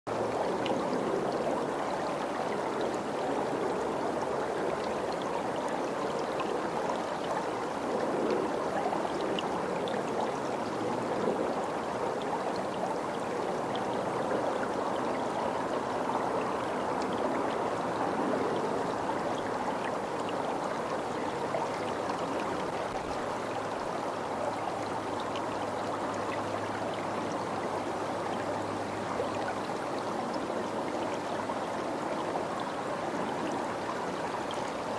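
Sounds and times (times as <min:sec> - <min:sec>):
flowing water rushing: 0:00.1 - 0:34.9.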